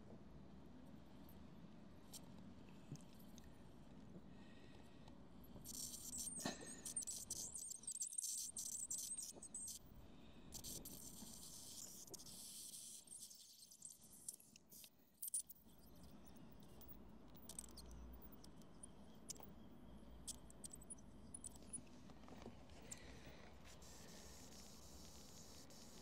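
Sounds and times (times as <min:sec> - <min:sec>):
small clicks and scrapes: 0:02.0 - 0:04.3, 0:05.0 - 0:26.0.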